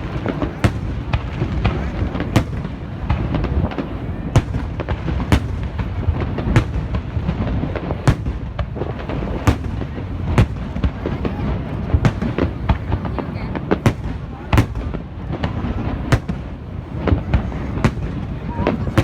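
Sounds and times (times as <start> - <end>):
crackle of smaller bursts: 0.0 - 19.0.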